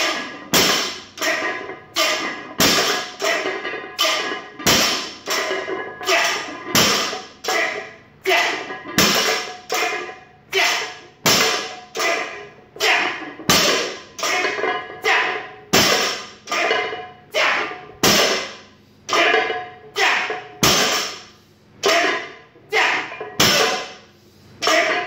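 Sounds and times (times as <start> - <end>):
barbell plates clanking: 0.0 - 25.0.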